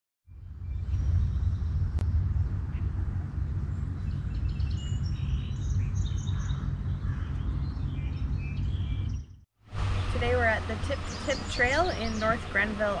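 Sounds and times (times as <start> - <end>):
birds chirping and trilling: 0.3 - 9.4, 10.1 - 13.0
low outdoor rumble: 0.3 - 13.0.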